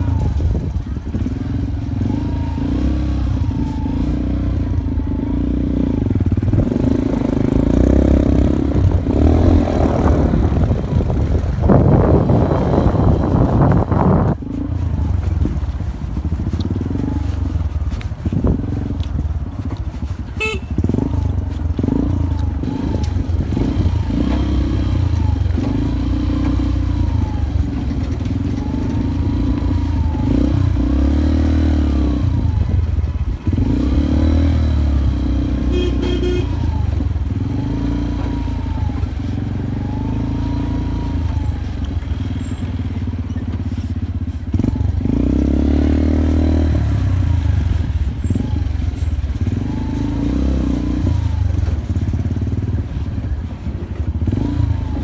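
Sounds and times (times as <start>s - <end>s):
motorcycle engine under load: 0.0s - 55.0s.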